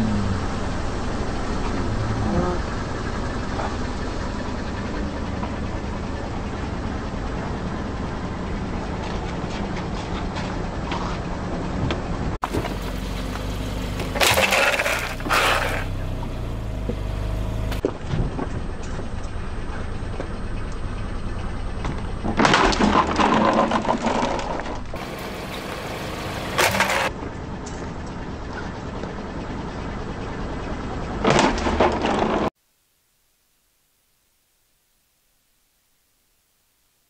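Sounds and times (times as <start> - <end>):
car engine running: 0.0 - 32.6.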